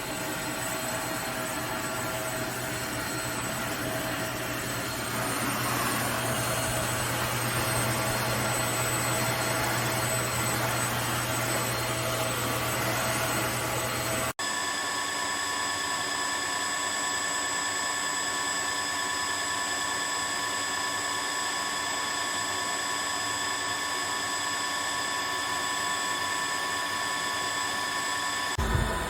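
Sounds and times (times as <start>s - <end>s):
vacuum motor hiss and whine: 0.0s - 29.0s.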